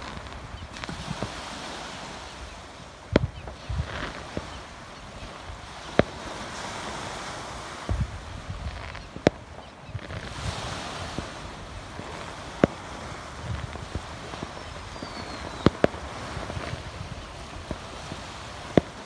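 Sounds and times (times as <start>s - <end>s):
distant fireworks cracking: 0.0s - 2.2s, 2.9s - 19.0s
waves: 0.0s - 19.0s
wind: 0.0s - 19.0s.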